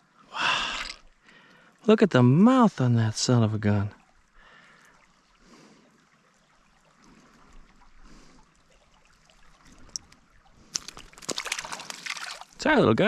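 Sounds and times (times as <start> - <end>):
creek water trickling: 0.0 - 13.0.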